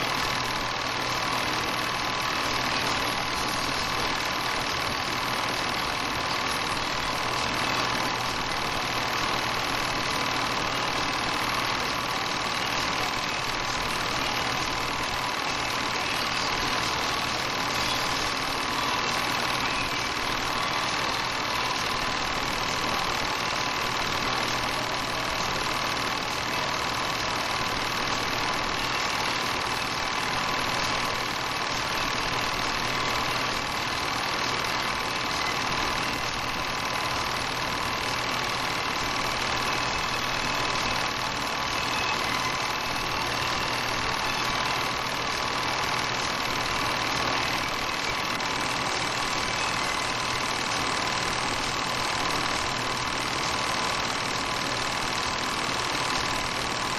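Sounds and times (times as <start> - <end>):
constant hum: 0.0 - 56.9
film projector whirring and rattling: 0.0 - 56.9.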